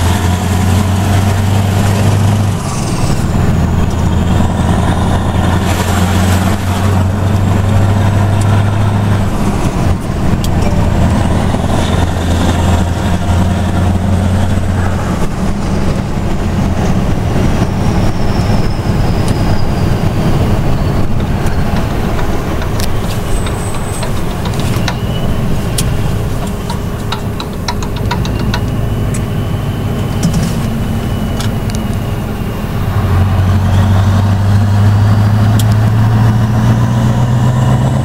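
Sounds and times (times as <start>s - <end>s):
truck engine droning: 0.0s - 38.0s.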